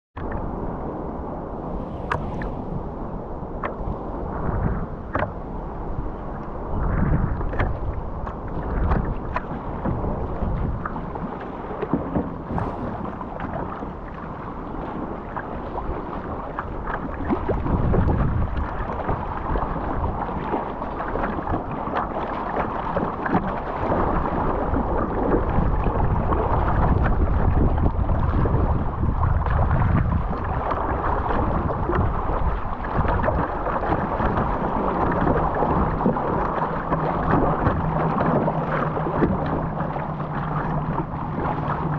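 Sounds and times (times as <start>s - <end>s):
water rushing along hull: 0.2s - 41.9s
wind rumble on microphone: 0.2s - 41.9s
paddle blades dipping: 1.6s - 41.9s.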